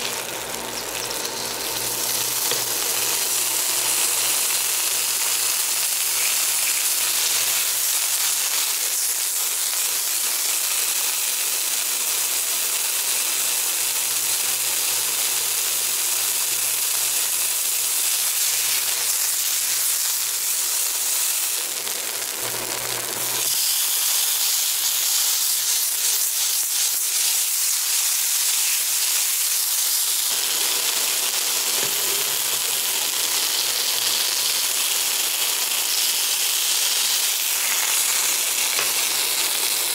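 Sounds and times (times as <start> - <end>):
meat sizzling in hot oil: 0.0 - 39.9.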